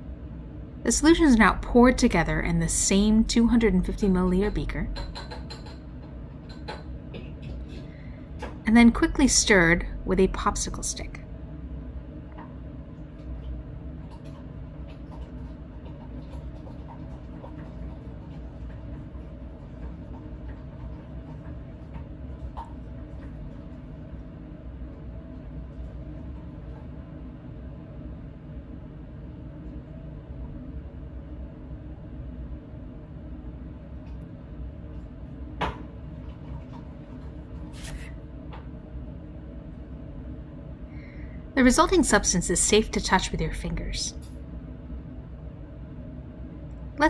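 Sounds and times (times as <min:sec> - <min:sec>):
low hum of room machinery: 0:00.0 - 0:47.0.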